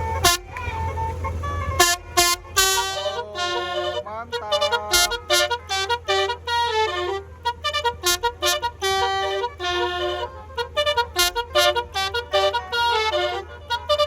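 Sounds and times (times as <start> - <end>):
horns tooting a fast tune: 0.0 - 14.0
steady low hum: 0.0 - 14.0.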